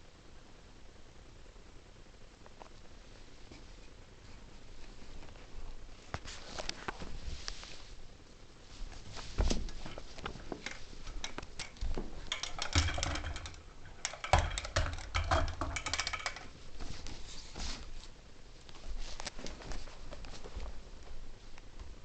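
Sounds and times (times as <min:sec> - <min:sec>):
rustling of things handled: 0:03.4 - 0:21.4.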